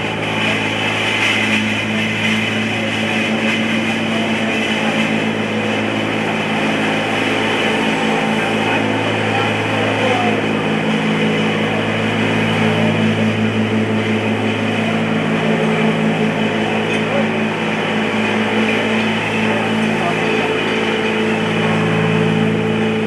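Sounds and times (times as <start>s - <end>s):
indistinct voices: 0.0s - 23.0s
traffic engine hum: 0.0s - 23.0s.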